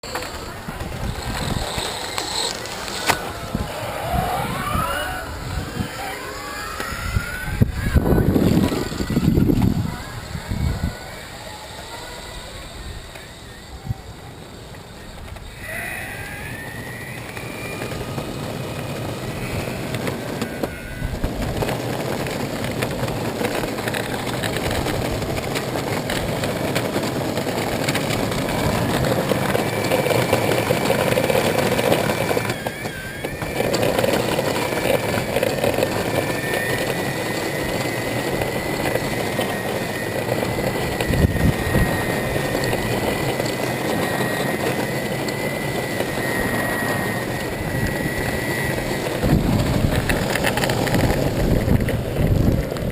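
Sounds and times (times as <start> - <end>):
electric motor whining: 0.0 - 52.9
steady rushing noise: 0.0 - 52.9.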